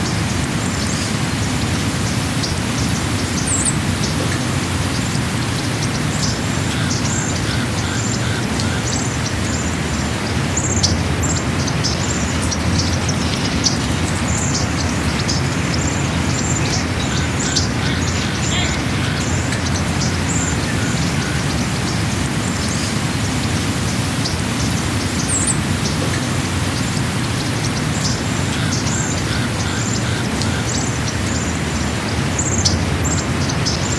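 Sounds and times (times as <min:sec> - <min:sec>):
small birds chirping: 0:00.0 - 0:33.9
steady rushing noise: 0:00.0 - 0:33.9.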